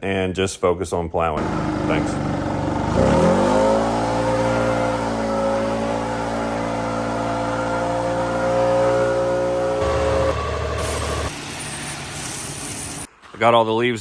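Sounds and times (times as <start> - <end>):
engine running: 1.4 - 13.1.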